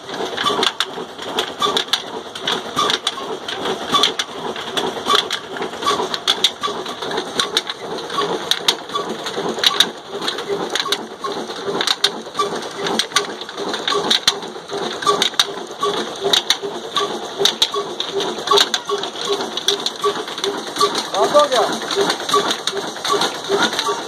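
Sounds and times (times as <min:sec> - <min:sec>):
engine driving stone flour mill: 0:00.0 - 0:24.0
sharp clicks: 0:00.4 - 0:24.0.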